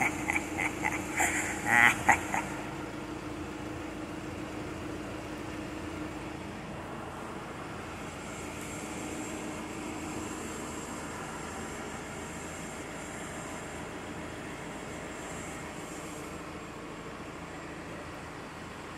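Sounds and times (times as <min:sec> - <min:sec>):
mechanical hum: 0:00.0 - 0:18.9.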